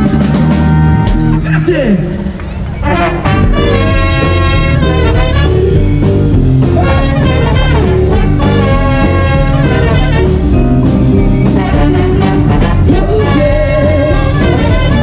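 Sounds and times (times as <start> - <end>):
swing band playing jazz: 0.0 - 1.7, 2.8 - 15.0.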